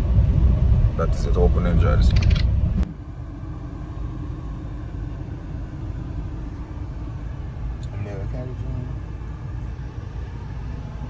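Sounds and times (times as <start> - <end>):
car road and engine noise: 0.0 - 11.0
loud rumble cutting off: 0.0 - 11.0.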